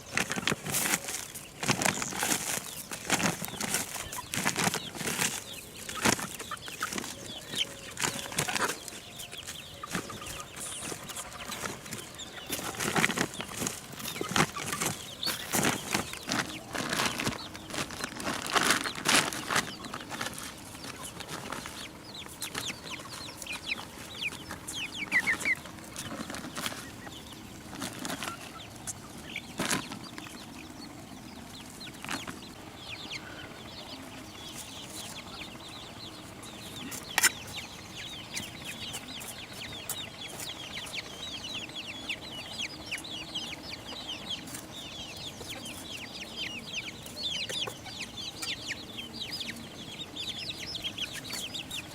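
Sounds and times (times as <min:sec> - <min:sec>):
chickens clucking and chirping: 0:00.0 - 0:51.9.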